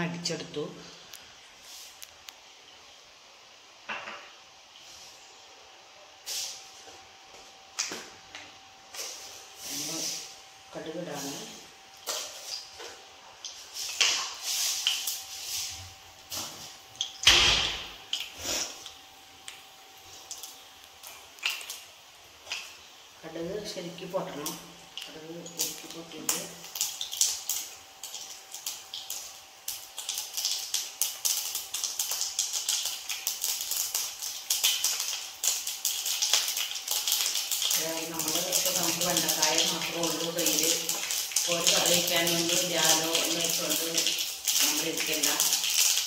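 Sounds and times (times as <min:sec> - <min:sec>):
seeds sizzling and popping in oil: 0:00.9 - 0:46.0.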